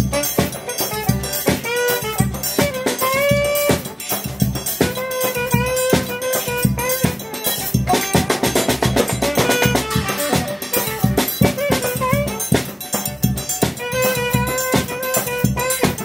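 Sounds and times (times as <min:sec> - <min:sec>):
drum beaten with a stick: 0:00.0 - 0:16.0
saxophone melody: 0:00.0 - 0:16.0.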